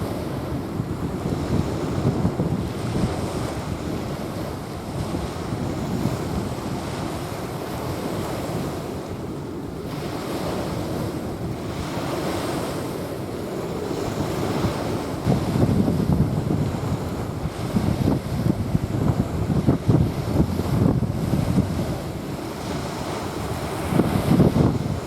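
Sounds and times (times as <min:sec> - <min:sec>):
small waves washing onto beach: 0:00.0 - 0:25.0
wind buffeting microphone: 0:00.0 - 0:25.0.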